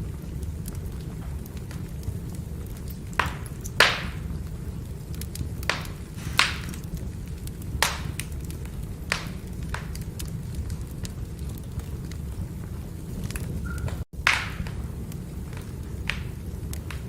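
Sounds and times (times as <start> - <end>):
fire rumbling: 0.0 - 17.0
logs popping and cracking: 0.3 - 17.0.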